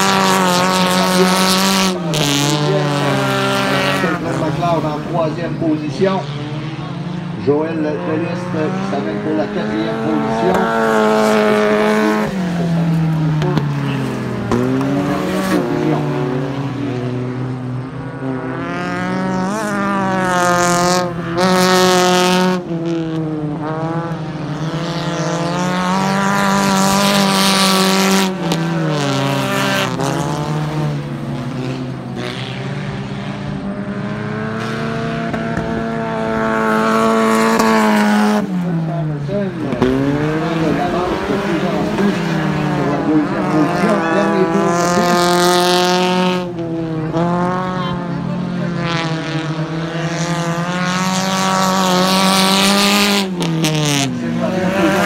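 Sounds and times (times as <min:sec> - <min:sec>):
stock car engines racing: 0:00.0 - 0:55.0.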